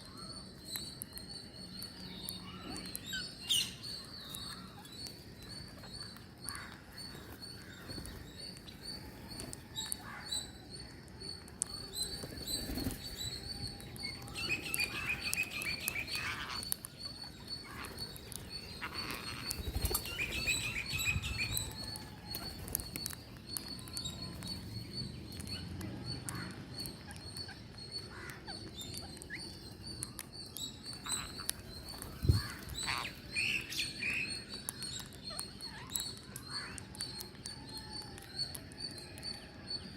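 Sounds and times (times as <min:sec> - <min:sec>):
parrots chirping: 0:00.1 - 0:39.5.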